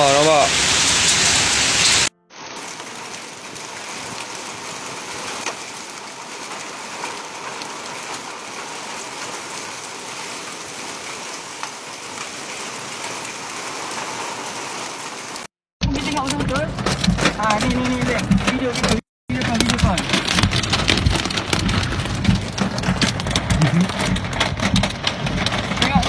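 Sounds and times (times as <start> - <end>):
hail and rain on metal roof: 0.0 - 26.0
hailstone ticks: 2.6 - 14.1, 15.3 - 26.0.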